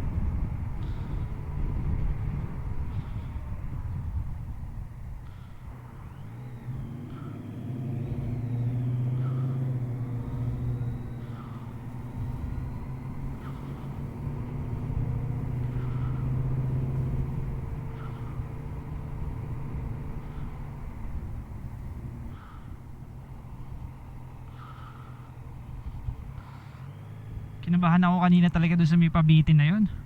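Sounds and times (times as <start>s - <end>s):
low wind rumble: 0.0s - 30.0s
motorcycle engine running: 0.0s - 30.0s.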